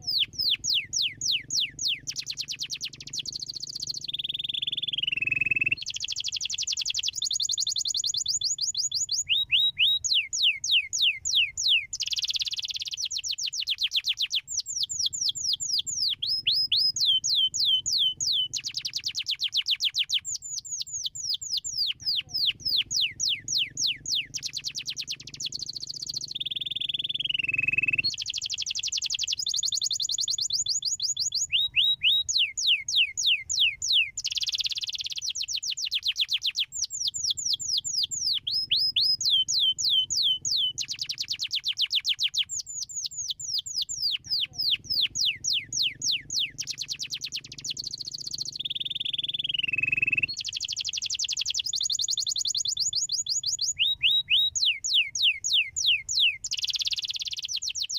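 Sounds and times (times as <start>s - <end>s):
canary trilling song: 0.0s - 57.9s.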